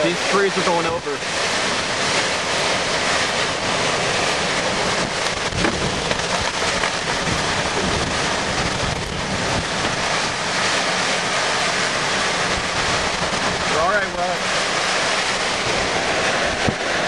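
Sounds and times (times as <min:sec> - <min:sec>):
strong wind gusting through trees: 0:00.0 - 0:17.0
wind buffeting microphone: 0:00.0 - 0:17.0.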